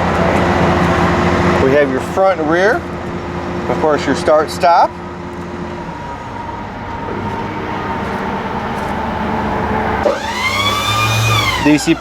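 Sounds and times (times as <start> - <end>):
diesel truck engine idling: 0.0 - 12.0
hydraulic pump motor whine: 0.0 - 12.0.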